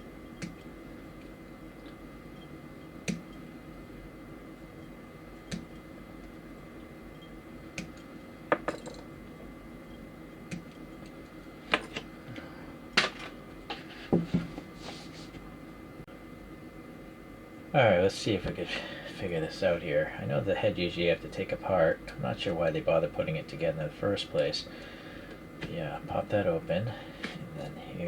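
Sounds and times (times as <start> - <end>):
faint room hum: 0.0 - 28.0.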